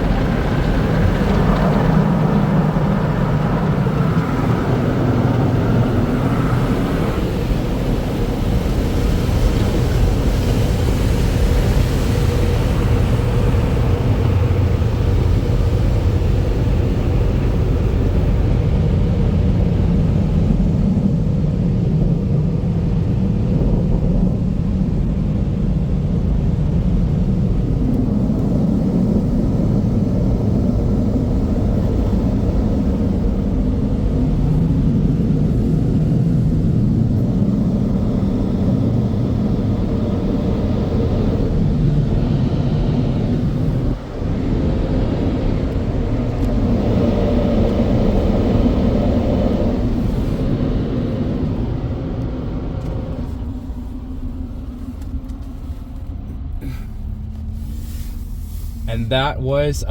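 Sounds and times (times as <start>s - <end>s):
car wash blower dryers rumbling: 0.0s - 59.9s.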